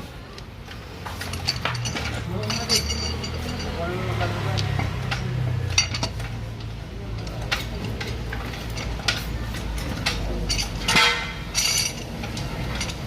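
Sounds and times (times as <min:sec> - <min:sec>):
metal tools clinking: 0:00.7 - 0:13.0.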